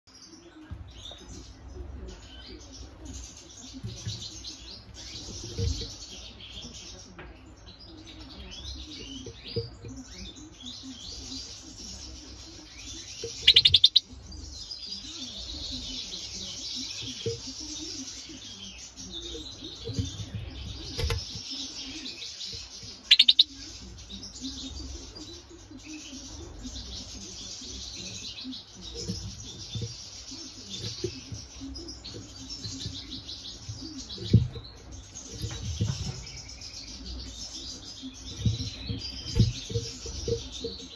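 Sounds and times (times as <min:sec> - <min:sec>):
goldfinch twittering song: 0:07.5 - 0:40.9.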